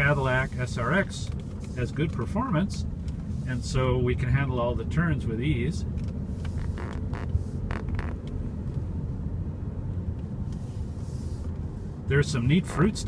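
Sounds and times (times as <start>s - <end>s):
engine and tyre rumble in car: 0.0s - 13.0s.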